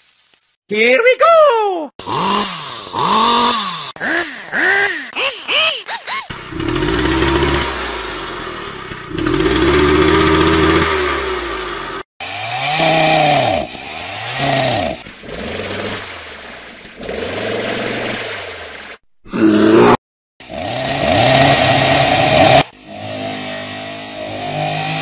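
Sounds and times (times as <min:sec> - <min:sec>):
chainsaw engine revving: 0:02.0 - 0:19.0, 0:19.6 - 0:25.0.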